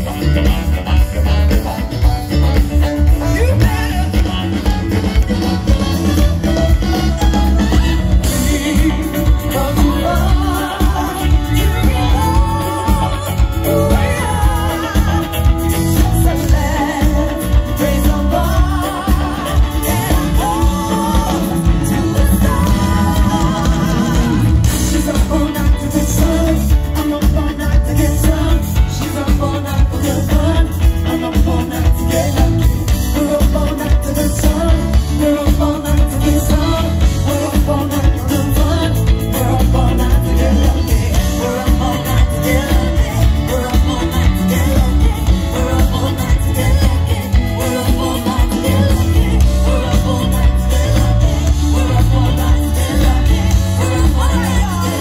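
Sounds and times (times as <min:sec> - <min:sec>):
live funk band playing: 0:00.0 - 0:55.0
person singing: 0:00.0 - 0:55.0.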